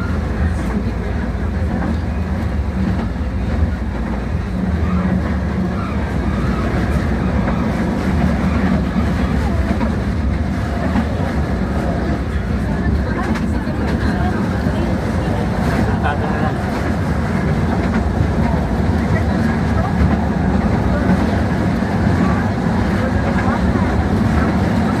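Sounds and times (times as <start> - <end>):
faint voices: 0.0 - 25.0
low city rumble: 0.0 - 25.0.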